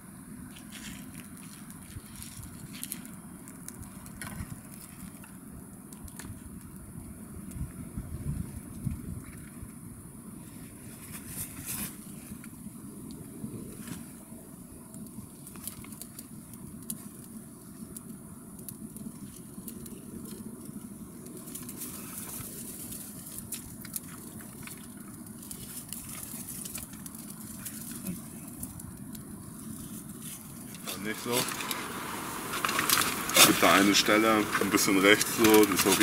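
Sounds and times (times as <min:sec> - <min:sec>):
fire crackling and popping: 0:00.0 - 0:36.0.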